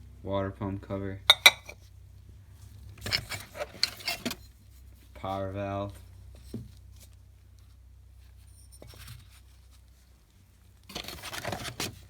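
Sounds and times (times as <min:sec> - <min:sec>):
low steady hum: 0:00.0 - 0:12.0
rustling and scraping of metal parts: 0:01.4 - 0:12.0.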